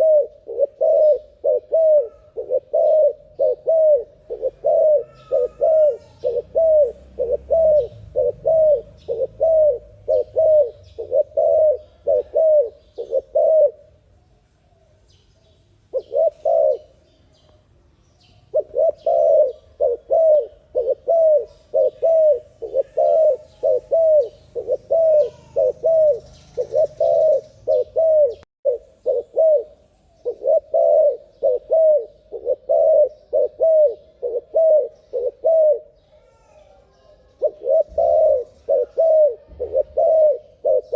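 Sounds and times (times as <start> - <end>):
dove cooing: 0.0 - 14.0, 15.9 - 17.1, 18.4 - 40.9.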